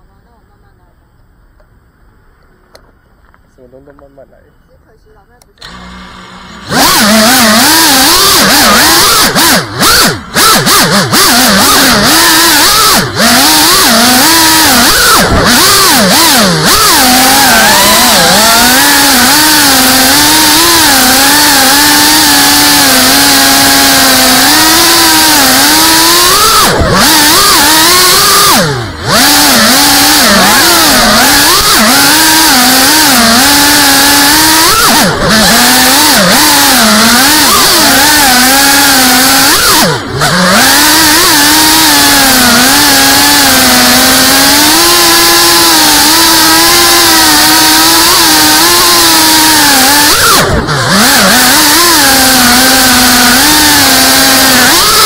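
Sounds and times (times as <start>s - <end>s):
quadcopter motors whining: 2.3s - 55.0s.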